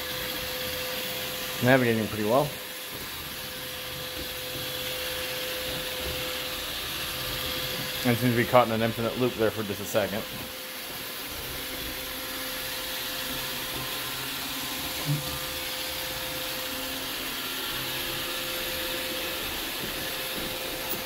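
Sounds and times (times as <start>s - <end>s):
robot vacuum whirring: 0.0s - 21.0s.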